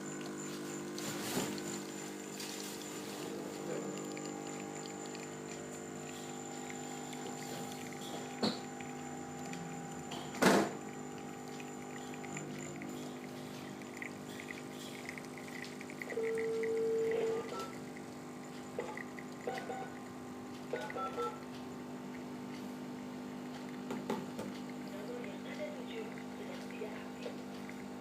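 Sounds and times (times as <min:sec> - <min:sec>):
espresso machine pump humming: 0:00.0 - 0:28.0.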